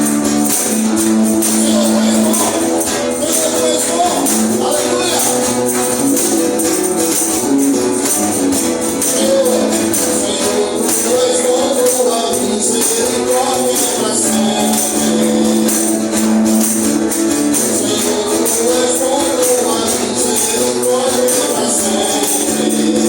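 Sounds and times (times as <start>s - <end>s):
gospel band singing: 0.0s - 23.0s
shaken percussion beat: 0.0s - 23.0s.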